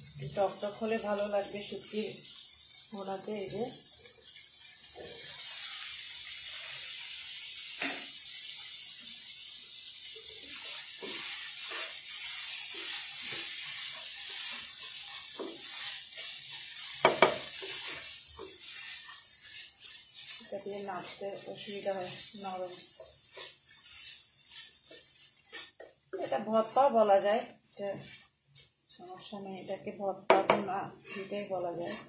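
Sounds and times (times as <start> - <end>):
food sizzling in frying pan: 0.0 - 32.0
spatula stirring and scraping: 0.0 - 32.0.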